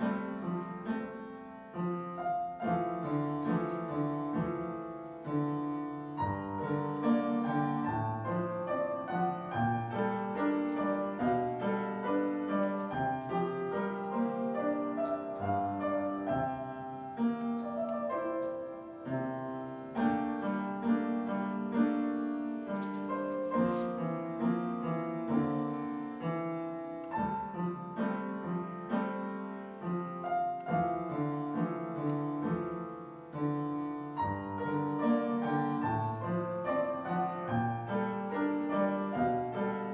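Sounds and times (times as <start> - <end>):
slow solo piano: 0.0 - 39.9.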